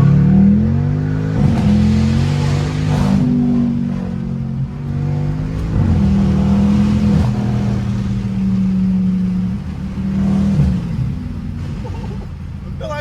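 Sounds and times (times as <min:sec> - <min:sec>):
car engine revving while driving: 0:00.0 - 0:13.0.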